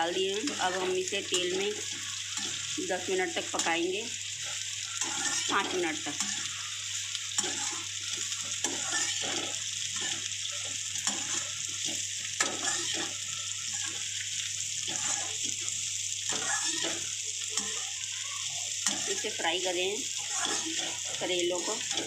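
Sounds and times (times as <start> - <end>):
vegetables sizzling in hot oil: 0.0 - 22.0
spatula scraping a pan: 0.4 - 19.5, 20.1 - 22.0.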